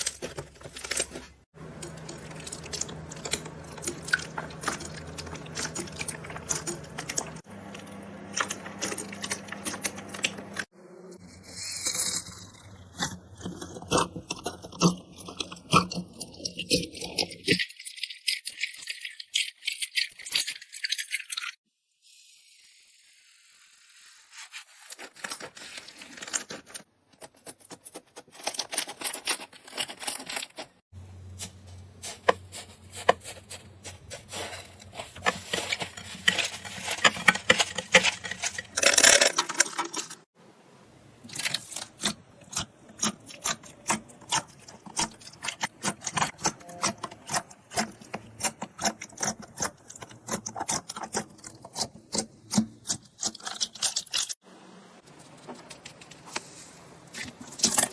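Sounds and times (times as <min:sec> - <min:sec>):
knife cutting and scraping soap: 0:00.0 - 0:20.4, 0:24.0 - 0:40.3, 0:41.4 - 0:54.4.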